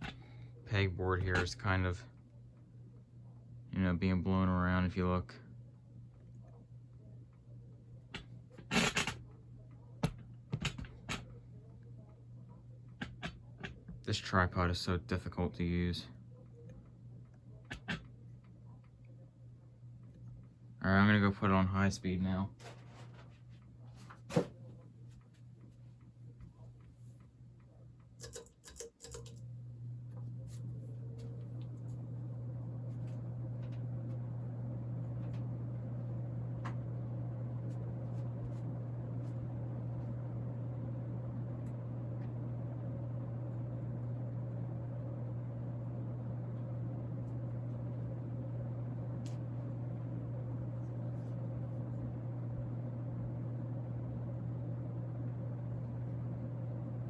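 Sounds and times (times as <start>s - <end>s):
ceiling fan motor hum: 0.0s - 57.0s.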